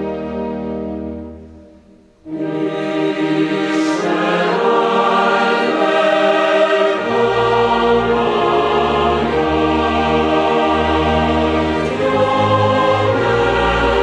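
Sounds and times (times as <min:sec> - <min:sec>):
choir with orchestra: 0:00.0 - 0:14.0.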